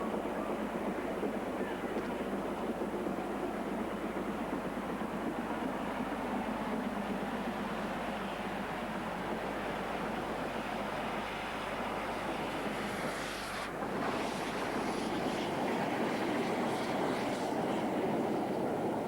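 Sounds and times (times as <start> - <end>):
steam locomotive running: 0.0 - 19.0.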